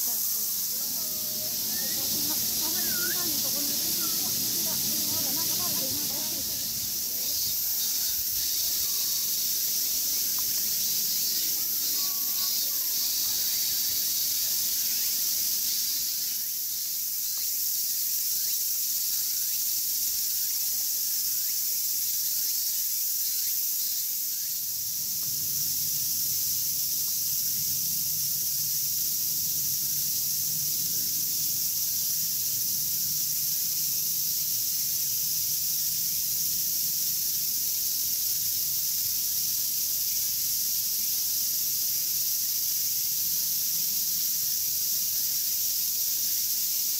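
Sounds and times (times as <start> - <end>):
cicadas chorus: 0.0 - 46.9.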